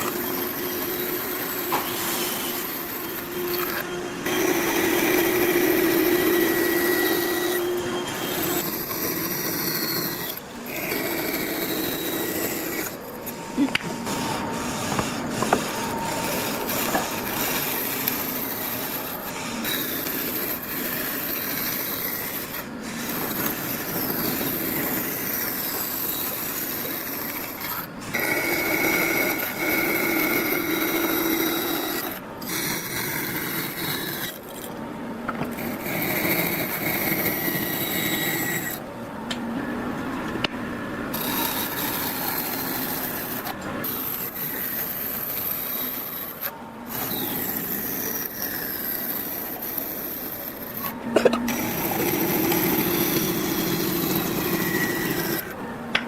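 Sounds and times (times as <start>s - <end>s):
rough grinding noise: 0.0s - 13.4s, 14.0s - 38.9s, 41.1s - 55.6s
power tool humming and whining: 0.0s - 38.9s, 41.1s - 55.6s.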